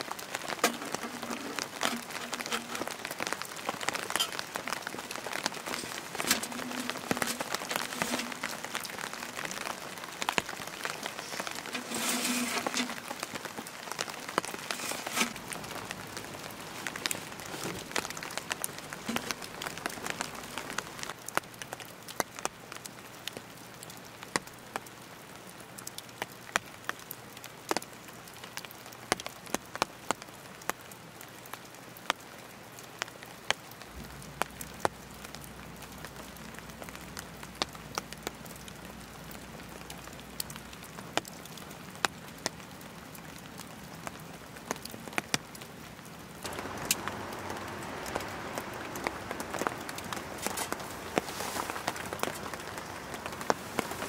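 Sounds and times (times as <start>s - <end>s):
raindrops ticking on surfaces: 0.0s - 54.0s
steady rain falling: 0.0s - 54.0s.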